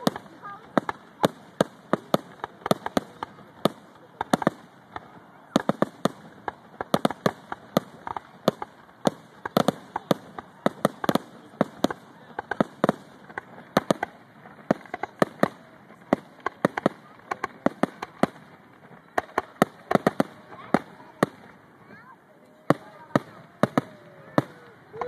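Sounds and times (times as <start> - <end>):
fireworks bursting with bangs: 0.0 - 25.0.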